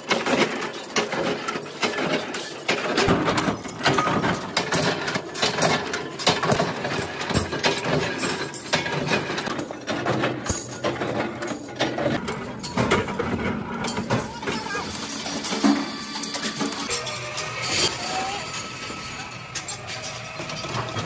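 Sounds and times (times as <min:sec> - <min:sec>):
punch press metal clanks: 0:00.0 - 0:17.1.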